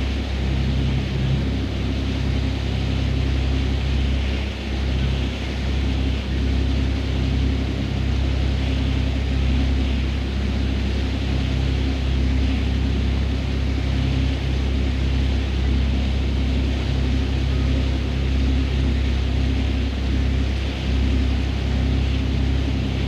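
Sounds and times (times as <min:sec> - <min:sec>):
boat engine humming: 0:00.0 - 0:23.0
water and wind hiss: 0:00.0 - 0:23.0.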